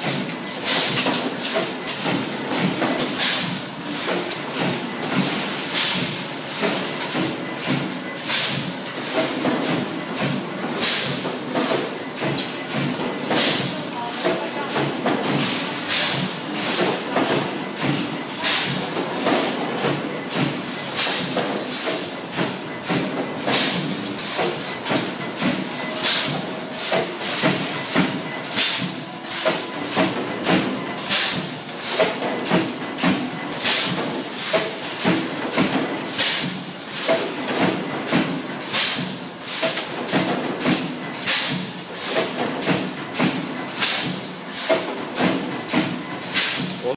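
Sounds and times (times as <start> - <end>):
constant machine din: 0.0 - 46.9
machine clanks: 0.0 - 46.9.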